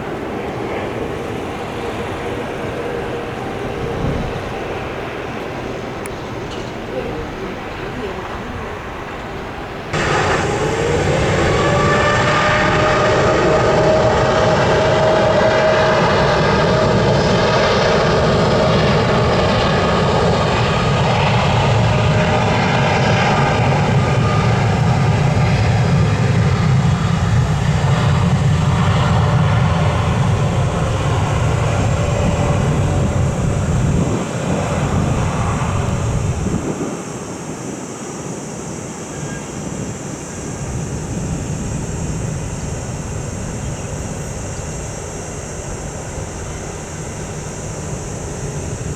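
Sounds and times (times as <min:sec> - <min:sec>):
airplane engines running: 0:00.0 - 0:48.9
multi-tone engine whine: 0:00.0 - 0:48.9.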